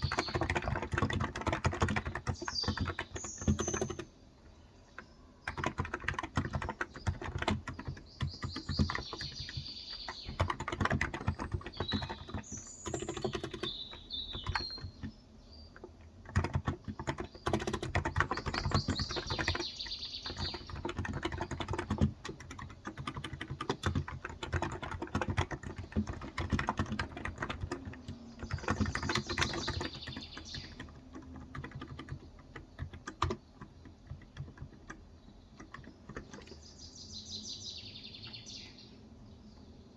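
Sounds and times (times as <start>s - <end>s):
keyboard typing: 0.0s - 15.2s, 15.8s - 36.6s
birds chirping: 0.0s - 39.9s.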